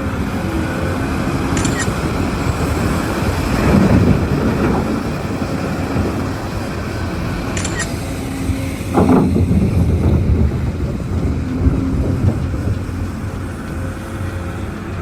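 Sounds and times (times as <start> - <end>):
heavy engine rumbling: 0.0 - 15.0.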